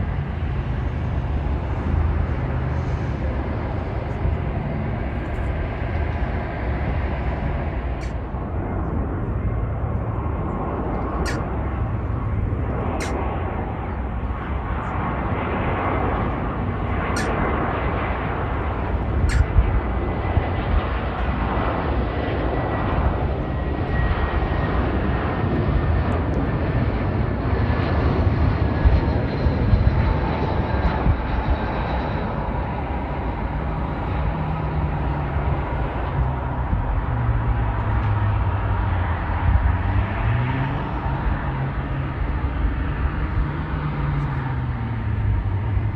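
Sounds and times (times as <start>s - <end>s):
engine whine: 0.0s - 45.9s
jet engines rumbling: 0.0s - 45.9s.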